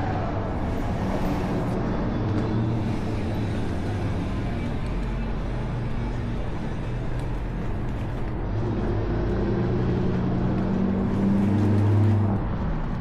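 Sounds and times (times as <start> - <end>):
city street traffic: 0.0 - 13.0
vehicle engine hum: 0.0 - 13.0.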